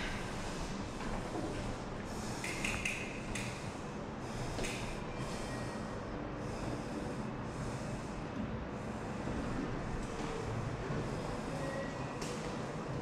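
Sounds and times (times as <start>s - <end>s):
indoor lobby background noise: 0.0s - 13.0s.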